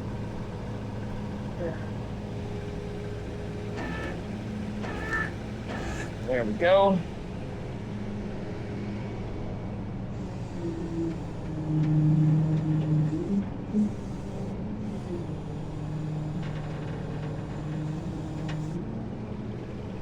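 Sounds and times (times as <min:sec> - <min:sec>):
truck engine and hydraulics hum: 0:00.0 - 0:20.0.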